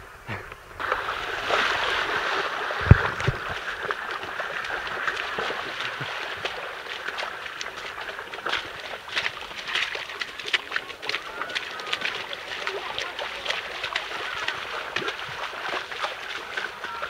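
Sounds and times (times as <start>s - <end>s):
feet sloshing through muddy water: 0.3s - 17.0s.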